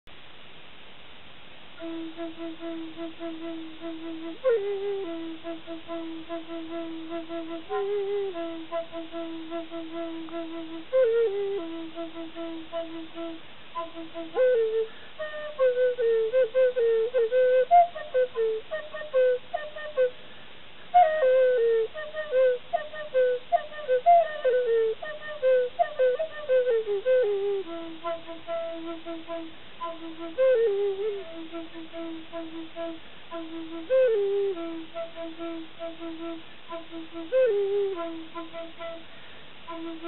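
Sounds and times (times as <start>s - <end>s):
flute melody: 1.8s - 20.2s, 20.9s - 40.0s.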